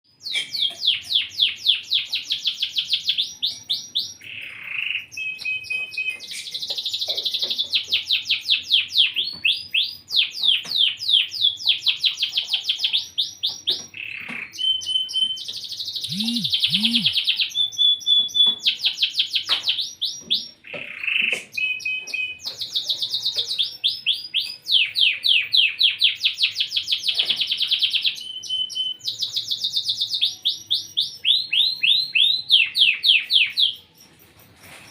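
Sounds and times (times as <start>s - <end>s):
canary singing trills: 0.1s - 34.7s.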